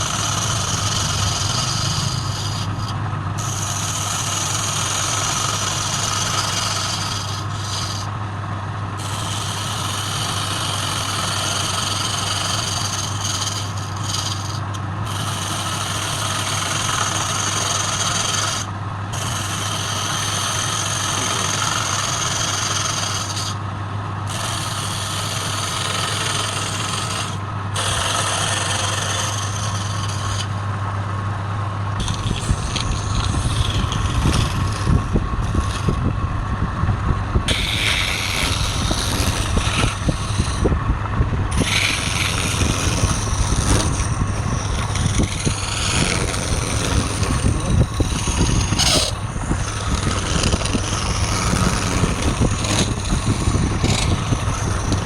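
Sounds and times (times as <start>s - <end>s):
tool scraping spinning wood: 0.0s - 55.0s
wood lathe humming: 0.0s - 55.0s.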